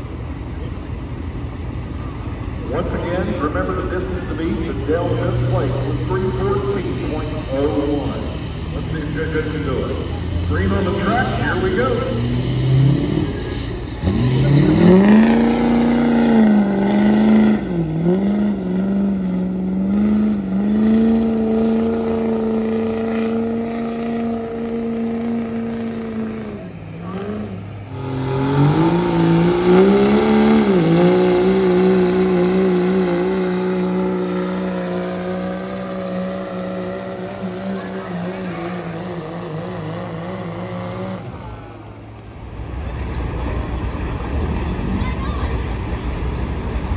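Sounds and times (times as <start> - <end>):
diesel truck engine at full throttle: 0.0 - 46.9.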